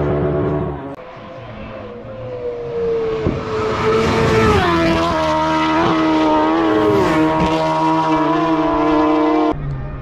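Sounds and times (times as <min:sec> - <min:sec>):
motorcycle passing at speed: 0:00.0 - 0:09.6.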